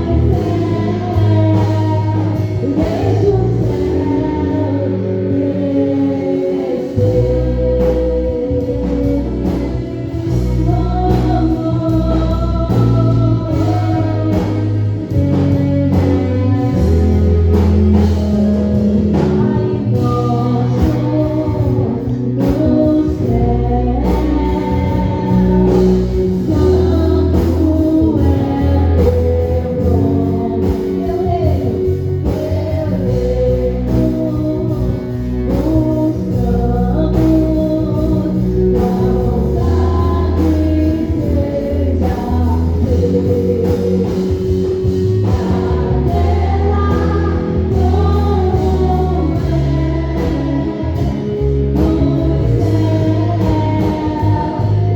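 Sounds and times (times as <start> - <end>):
band accompaniment: 0.0 - 54.9
bass notes: 0.0 - 54.9
person singing: 0.0 - 54.9
steady drum beat: 6.7 - 54.9.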